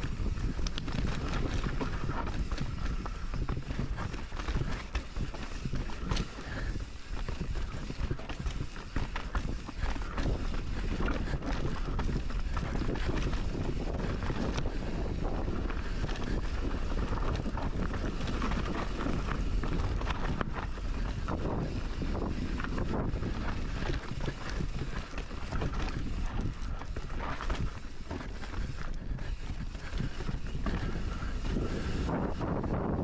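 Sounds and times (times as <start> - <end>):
bike tyres and frame clattering: 0.0 - 33.0
wind rushing over microphone: 0.0 - 33.0.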